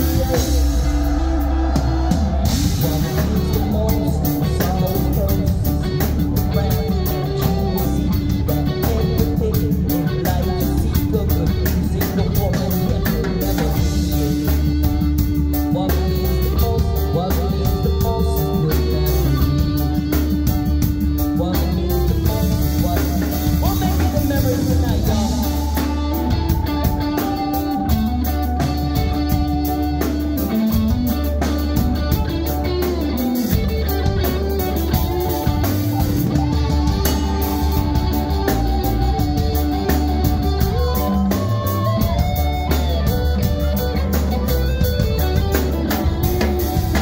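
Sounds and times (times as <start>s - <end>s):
bass: 0.0s - 47.0s
drum kit steady beat: 0.0s - 47.0s
electric guitars: 0.0s - 47.0s
keyboards: 0.0s - 47.0s.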